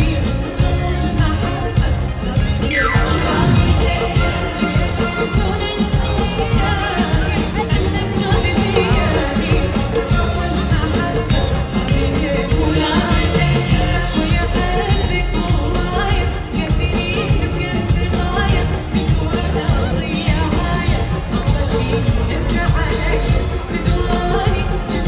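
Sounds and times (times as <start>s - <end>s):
woman singing pop: 0.0s - 25.0s.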